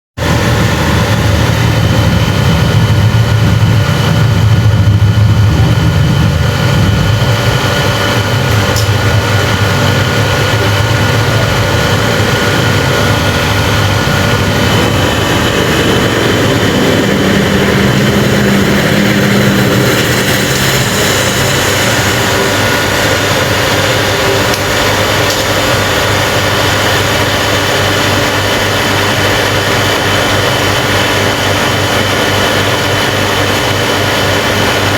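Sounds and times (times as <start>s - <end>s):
factory machinery drone: 0.2s - 34.9s
whining tones: 0.2s - 34.9s.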